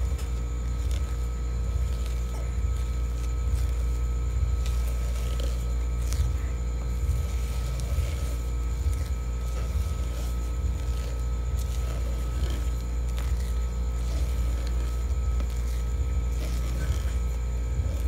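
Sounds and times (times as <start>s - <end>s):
spatula squishing and scraping batter: 0.0s - 18.0s
steady low hum: 0.0s - 18.0s.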